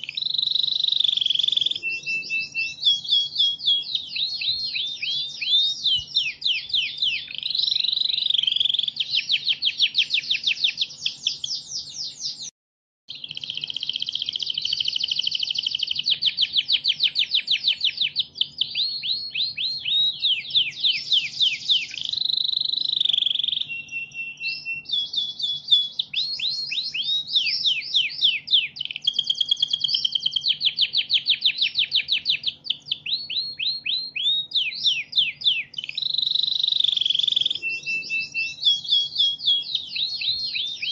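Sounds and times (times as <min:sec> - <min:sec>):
canary singing trills: 0:00.0 - 0:12.5, 0:13.1 - 0:40.9.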